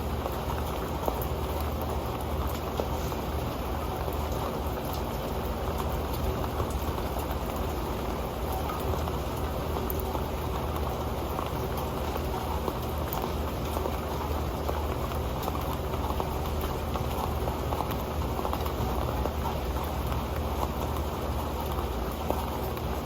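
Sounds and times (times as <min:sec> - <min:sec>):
rain drops hitting a pan: 0:00.0 - 0:23.0.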